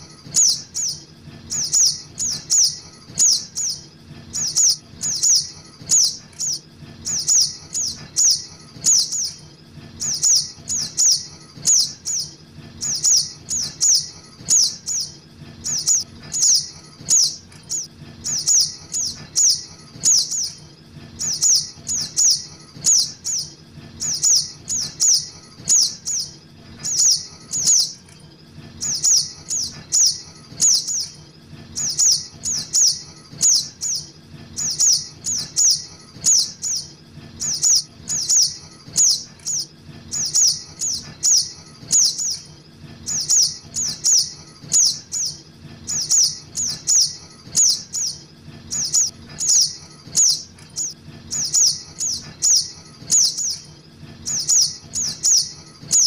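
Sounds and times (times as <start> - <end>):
bird calling with high chips: 0.0 - 9.4, 10.0 - 20.6, 21.2 - 28.1, 31.8 - 56.0.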